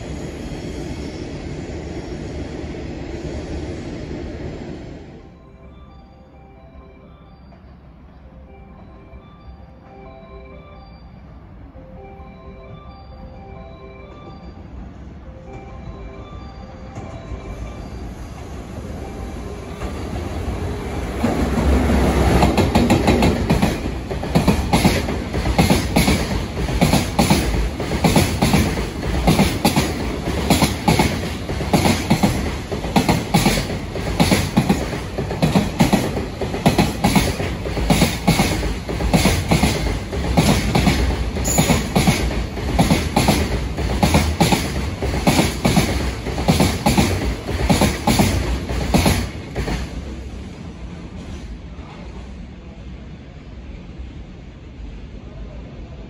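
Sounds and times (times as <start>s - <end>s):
electric locomotive passing: 0.0s - 56.0s.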